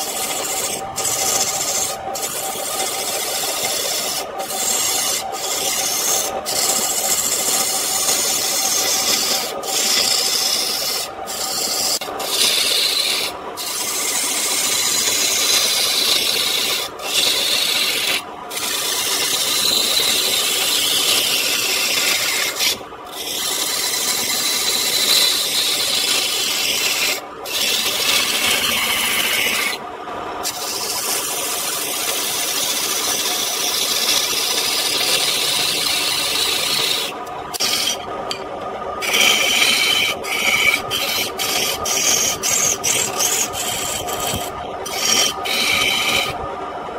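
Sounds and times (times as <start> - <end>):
lathe gouge rasping on wood: 0.0 - 29.8, 30.4 - 38.4, 39.0 - 46.4.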